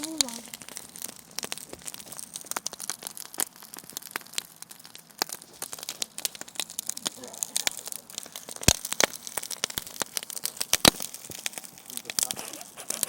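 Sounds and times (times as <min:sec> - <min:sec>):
campfire crackling and popping: 0:00.0 - 0:13.0
faint hiss: 0:00.0 - 0:13.0.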